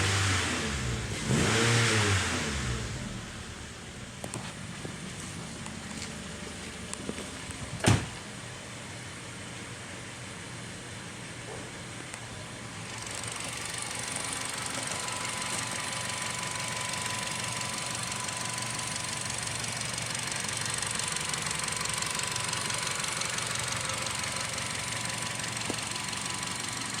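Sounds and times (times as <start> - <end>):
car engine idling: 2.1 - 27.0.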